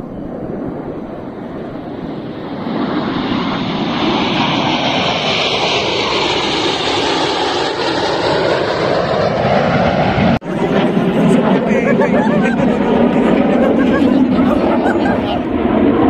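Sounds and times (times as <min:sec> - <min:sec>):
jets flying past overhead: 0:00.0 - 0:16.0.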